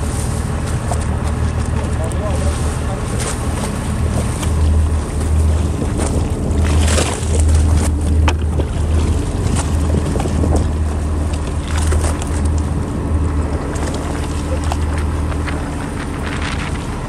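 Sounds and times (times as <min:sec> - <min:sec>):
boat engine running: 0:00.0 - 0:17.0
wind buffeting microphone: 0:00.0 - 0:17.0.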